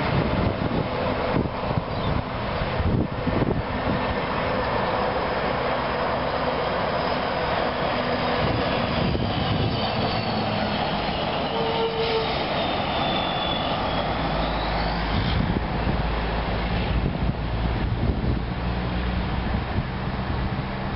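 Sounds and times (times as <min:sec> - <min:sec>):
truck driving past: 0:00.0 - 0:20.9.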